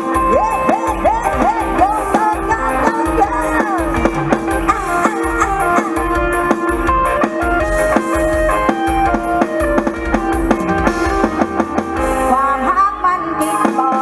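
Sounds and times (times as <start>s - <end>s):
drum kit beat: 0.0s - 14.0s.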